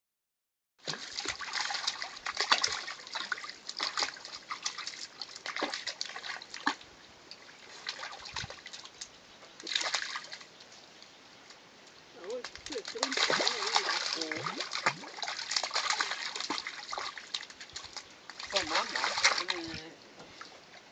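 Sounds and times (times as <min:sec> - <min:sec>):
dog paws splashing in water: 0:00.8 - 0:10.8, 0:12.2 - 0:20.8
stream trickling: 0:00.8 - 0:20.9.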